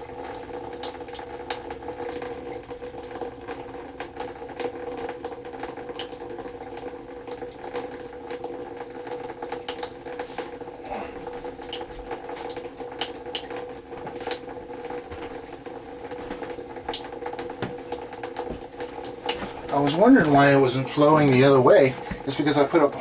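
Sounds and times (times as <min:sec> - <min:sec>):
water and air sputtering in pipes: 0:00.0 - 0:23.0.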